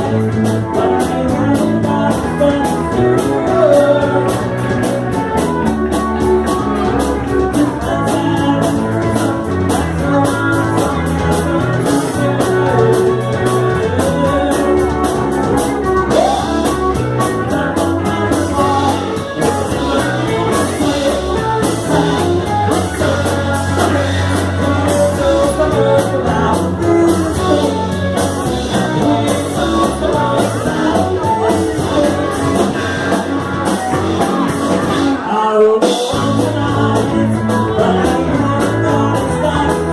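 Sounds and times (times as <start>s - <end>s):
lead singer singing: 0.0s - 39.9s
rock band playing: 0.0s - 39.9s.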